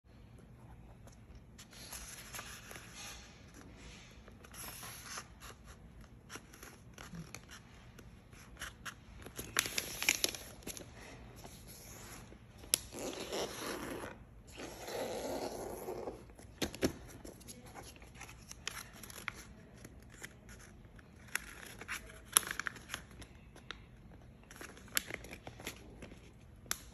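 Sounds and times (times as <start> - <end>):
paper crackling: 0.8 - 13.6, 16.3 - 26.9
paper rustling and crinkling: 0.8 - 13.6, 16.3 - 26.9.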